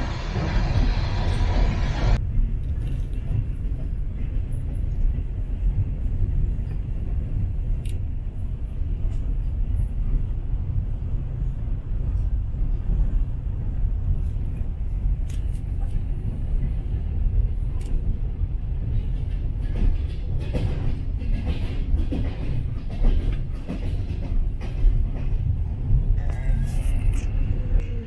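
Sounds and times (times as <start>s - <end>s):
train rumbling on track: 0.0s - 28.0s.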